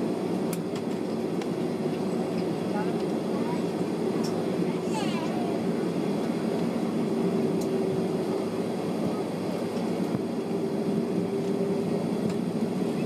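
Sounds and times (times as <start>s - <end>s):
jet engines humming: 0.0s - 13.0s.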